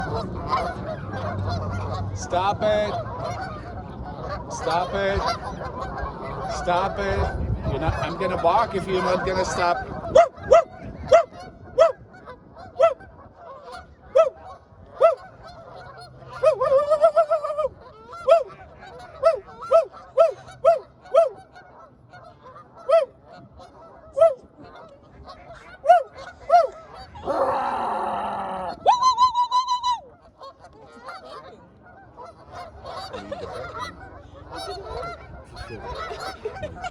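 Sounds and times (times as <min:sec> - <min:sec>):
geese honking: 0:00.0 - 0:36.9.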